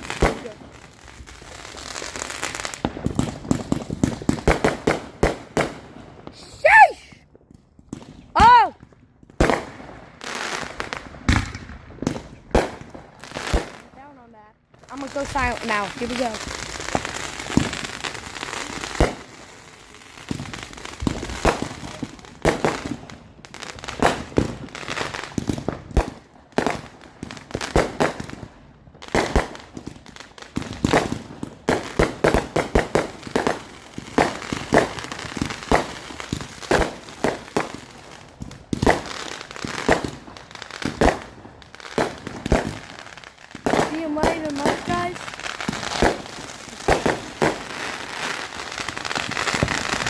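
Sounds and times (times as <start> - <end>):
fireworks banging and crackling: 0.0 - 50.0.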